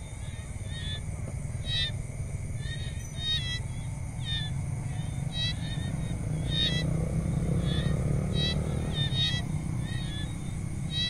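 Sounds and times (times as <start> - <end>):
chirping animal calls: 0.0 - 11.0
insect drone: 0.0 - 11.0.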